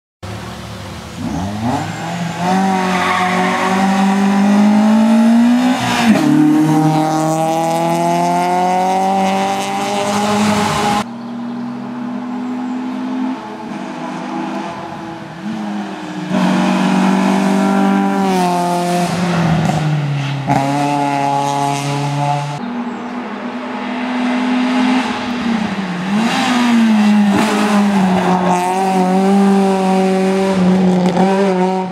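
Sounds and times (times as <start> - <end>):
racing car engines revving: 0.2 - 31.9.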